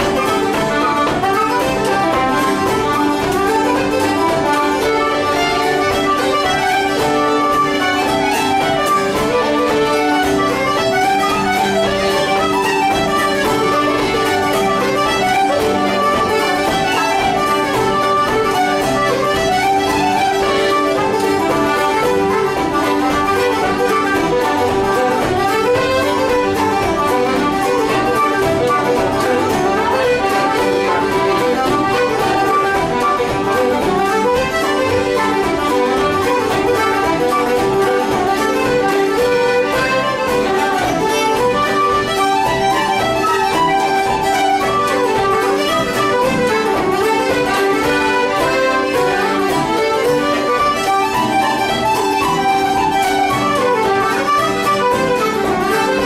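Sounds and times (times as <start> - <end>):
accordion: 0.0 - 56.0
fiddle: 0.0 - 56.0
guitar accompaniment: 0.0 - 56.0
wooden flute: 0.0 - 56.0.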